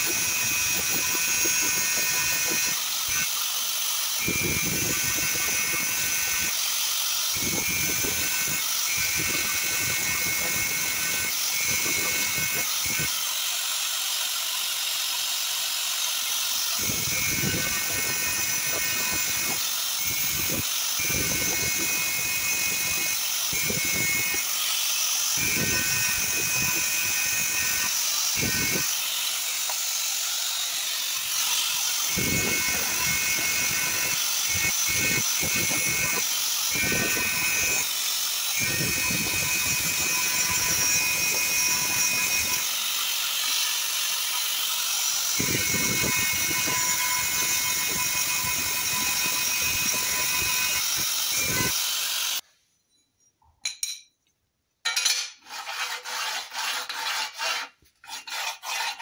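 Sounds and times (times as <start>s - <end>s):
angle grinder grinding steel bar: 0.0s - 52.4s, 54.9s - 59.0s.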